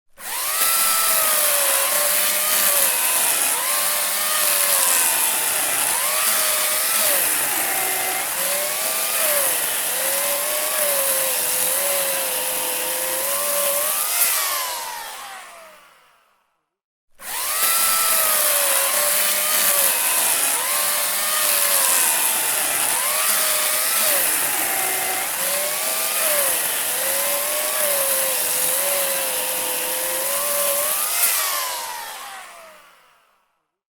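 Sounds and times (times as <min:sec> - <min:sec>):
electric saw cutting wood: 0:00.1 - 0:16.5, 0:17.2 - 0:33.5.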